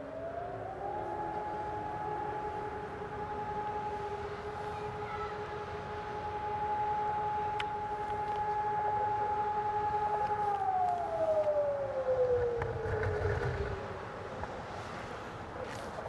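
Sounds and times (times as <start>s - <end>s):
electronic siren tone: 0.0s - 15.0s.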